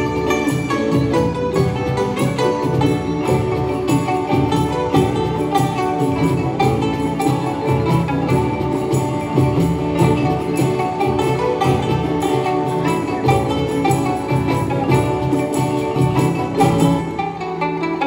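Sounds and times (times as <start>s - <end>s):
hand drum beat: 0.0s - 18.0s
plucked string melody: 0.0s - 18.0s.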